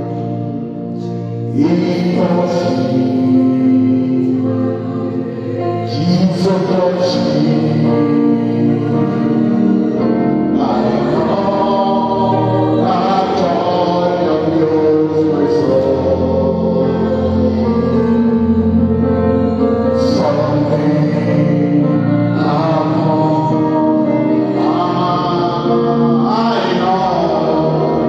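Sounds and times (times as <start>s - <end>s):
congregation singing a gospel song: 0.0s - 28.0s
instrumental accompaniment: 0.0s - 28.0s.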